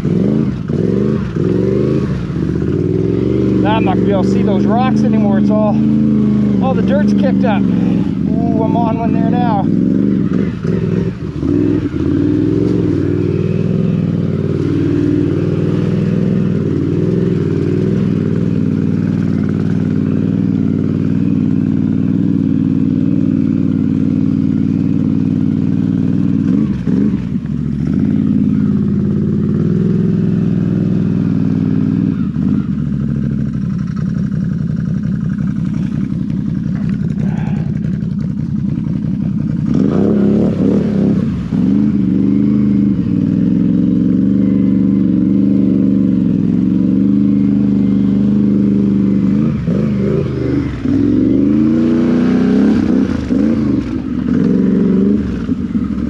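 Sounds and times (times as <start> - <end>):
vehicle splashing through water: 0.0 - 34.2, 35.1 - 56.0
atv engine revving: 0.0 - 56.0.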